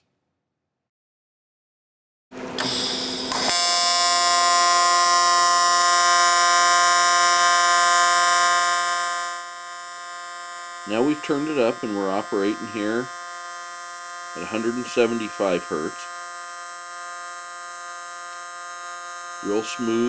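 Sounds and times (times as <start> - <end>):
welding arc buzzing: 2.4 - 20.0
welding arc crackle: 2.6 - 20.0.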